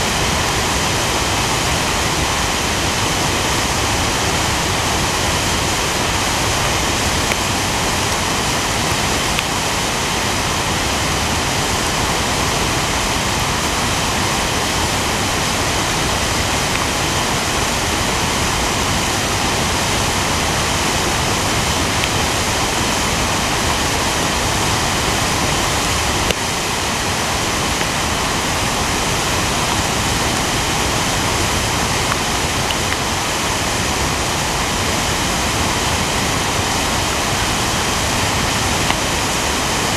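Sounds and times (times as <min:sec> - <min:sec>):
river rushing through rapids: 0:00.0 - 0:39.9.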